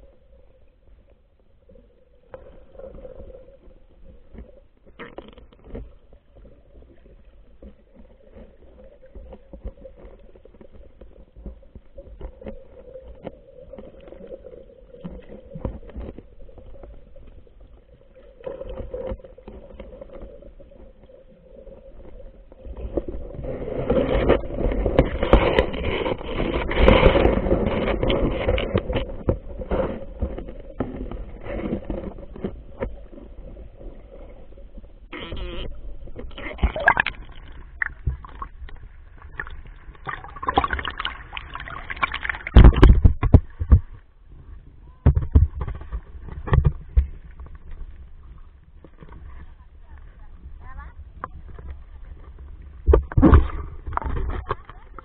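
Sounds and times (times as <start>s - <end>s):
water churning: 0.0s - 55.0s.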